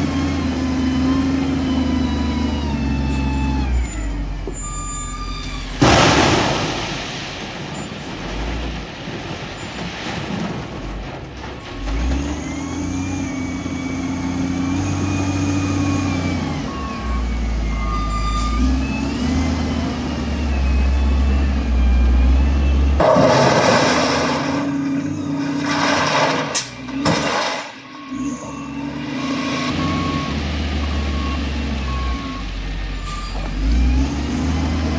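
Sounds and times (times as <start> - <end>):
construction machine engine revving: 0.0 - 9.2, 11.6 - 34.9.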